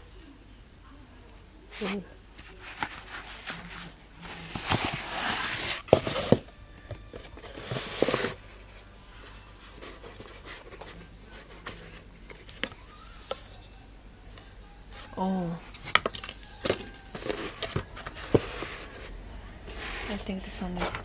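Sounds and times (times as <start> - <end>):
packaging rustling and scraping: 1.8 - 13.7, 15.0 - 21.0.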